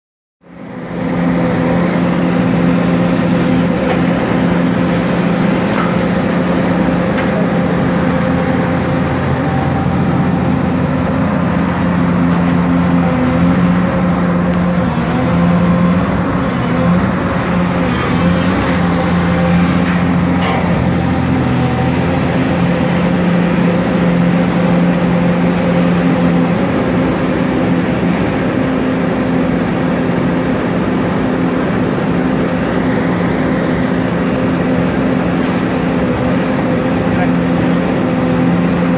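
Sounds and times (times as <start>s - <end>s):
excavator diesel engine drone: 0.4s - 38.9s.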